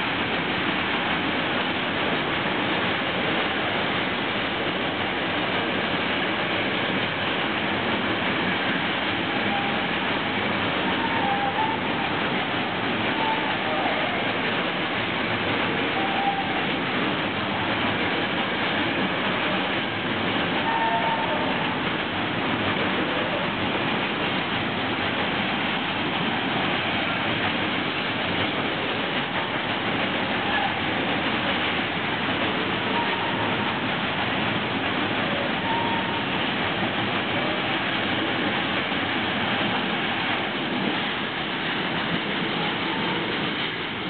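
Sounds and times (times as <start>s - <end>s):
train wheels rushing on rails: 0.0s - 44.0s.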